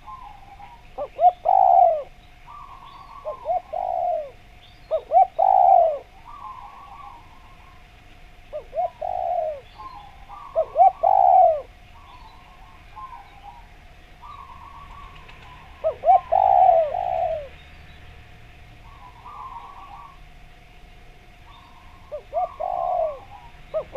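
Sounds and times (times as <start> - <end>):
dove cooing: 0.0 - 17.6, 18.8 - 23.9
faint bird chirping: 0.0 - 23.9
faint steady hum: 0.0 - 23.9.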